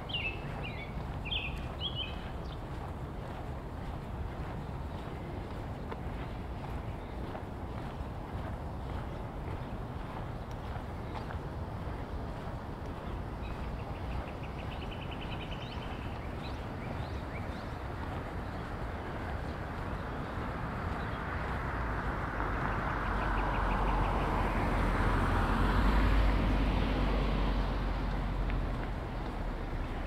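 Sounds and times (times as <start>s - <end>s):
car passing: 0.0s - 30.0s.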